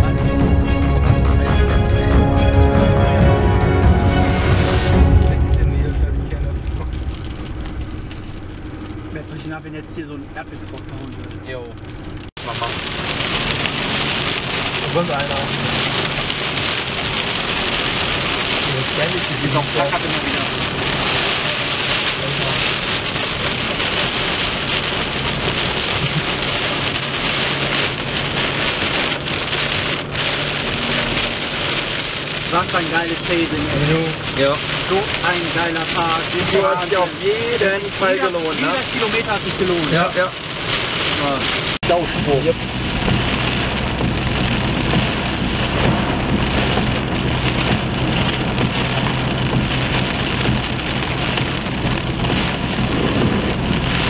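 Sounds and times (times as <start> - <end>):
rain on car roof: 0.0 - 54.0
low hum of car: 4.0 - 54.0.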